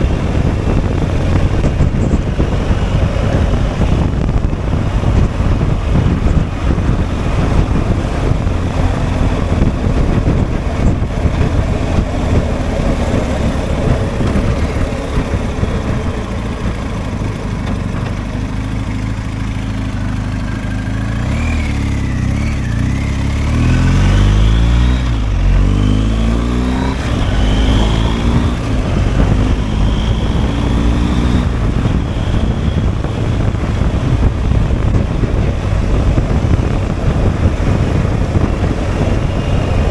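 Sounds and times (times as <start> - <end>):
motorcycle engine under way: 0.0 - 39.9
wind noise on microphone: 0.0 - 39.9.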